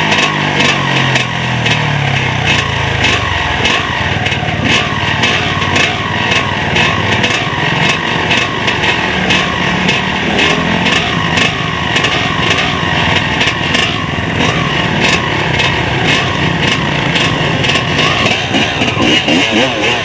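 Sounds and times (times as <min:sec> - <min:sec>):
off-road motorcycle engine running hard: 0:00.0 - 0:20.0.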